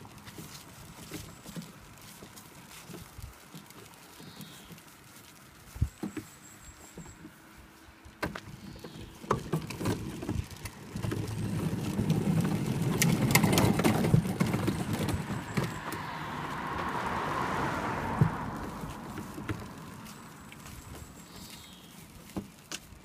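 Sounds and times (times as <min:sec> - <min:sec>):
plastic toy wheels rolling on pavement: 0:00.0 - 0:23.0.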